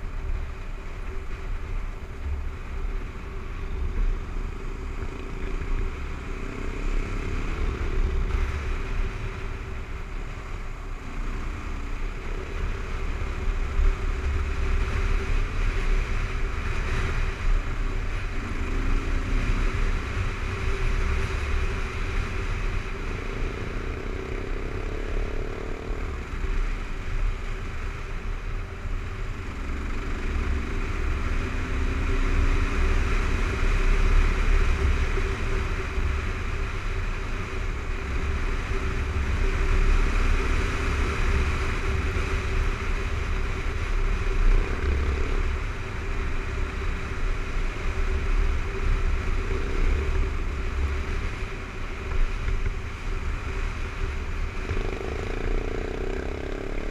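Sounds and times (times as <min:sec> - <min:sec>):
motorcycle engine cruising: 0:00.0 - 0:56.9
wind rumble on microphone: 0:00.0 - 0:56.9.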